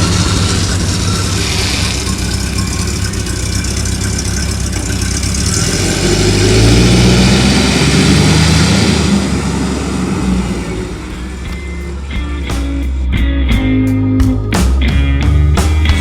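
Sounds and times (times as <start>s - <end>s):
car engine idling and revving: 0.0s - 13.8s.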